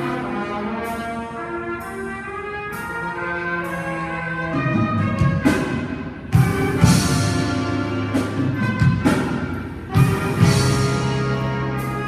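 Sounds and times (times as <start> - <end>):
big band sustained horn chords: 0.0 - 12.0.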